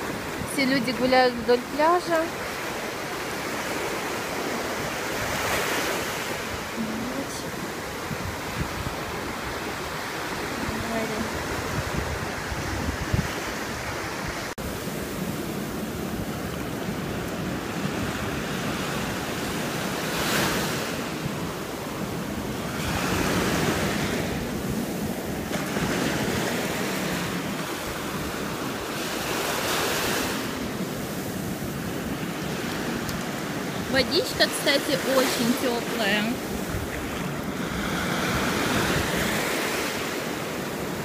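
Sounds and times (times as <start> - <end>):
waves breaking on sand: 0.0 - 41.0.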